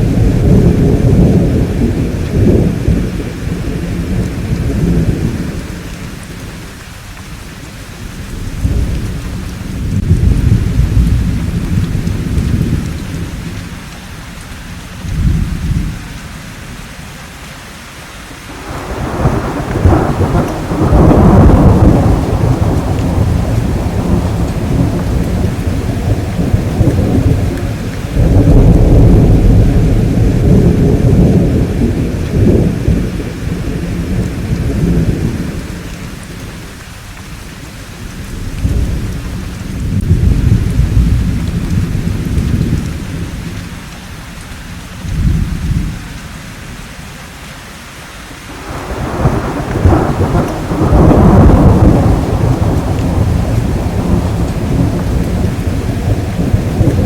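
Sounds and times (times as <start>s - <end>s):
rolling thunder: 0.0s - 6.8s, 7.9s - 13.9s, 18.5s - 36.9s, 37.6s - 44.0s, 45.0s - 46.8s, 48.5s - 57.0s
steady rain: 0.0s - 57.0s.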